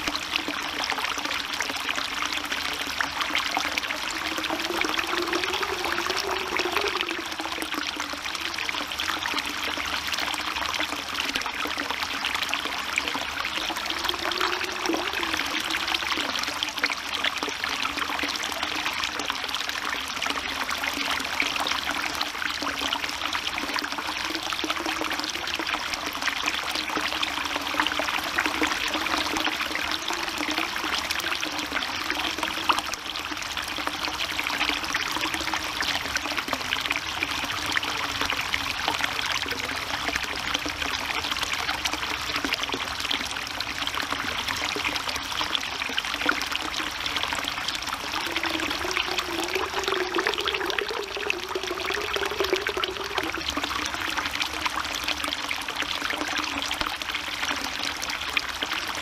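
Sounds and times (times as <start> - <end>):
water pouring into stone basin: 0.0 - 59.0.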